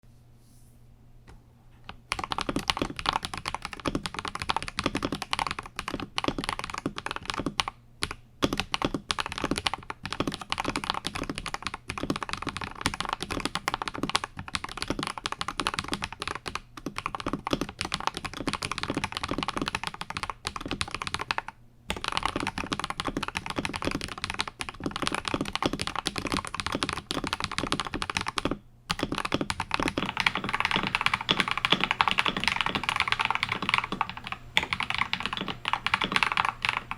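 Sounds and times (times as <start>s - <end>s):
fast typing on mechanical keyboard: 1.9s - 36.9s.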